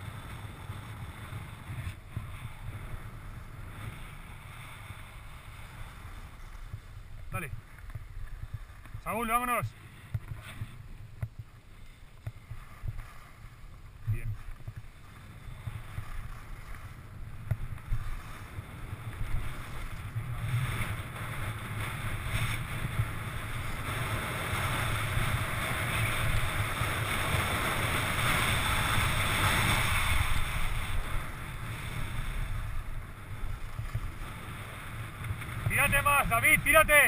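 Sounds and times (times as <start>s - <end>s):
skis sliding over snow: 0.0s - 37.0s
wind rushing over microphone: 0.0s - 37.0s.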